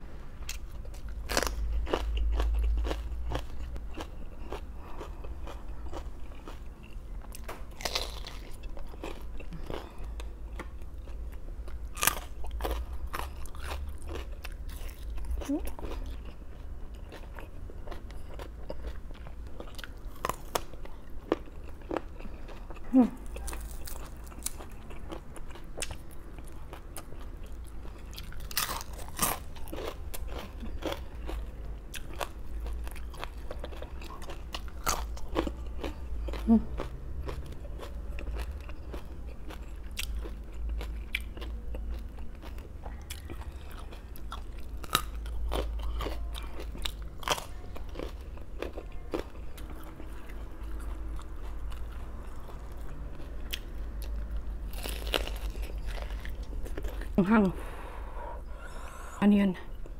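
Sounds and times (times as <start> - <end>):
crunchy vegetable chewing: 0.4 - 58.8.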